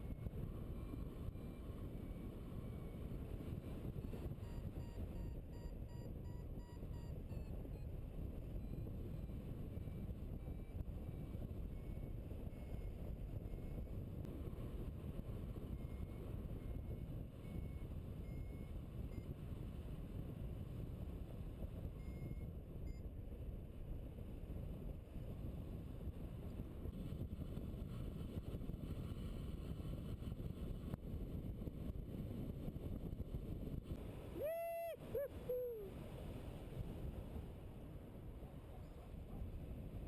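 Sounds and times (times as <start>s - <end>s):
wind rumbling on microphone: 0.0s - 40.0s.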